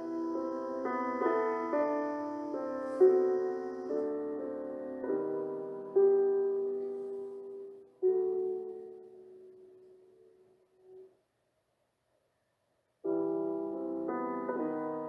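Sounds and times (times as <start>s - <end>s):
gentle piano chords: 0.0s - 11.3s, 13.0s - 15.0s.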